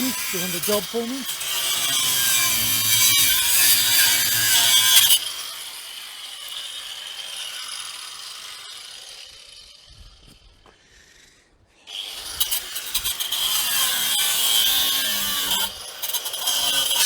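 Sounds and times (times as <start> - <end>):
power tool cutting steel: 0.0 - 10.5, 11.8 - 17.0.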